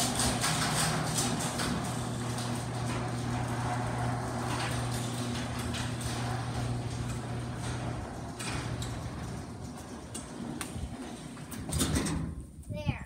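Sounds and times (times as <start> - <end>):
garage door motor hum: 0.0 - 12.5.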